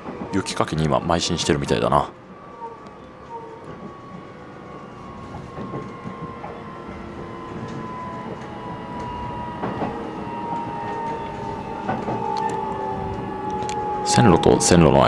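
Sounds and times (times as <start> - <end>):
train rumble with motor whine: 0.0 - 15.0.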